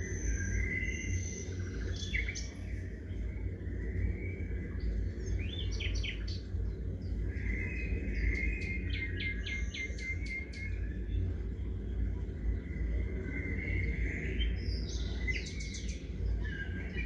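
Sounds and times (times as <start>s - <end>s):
low background rumble: 0.0s - 17.0s
small songbirds calling: 0.0s - 17.0s.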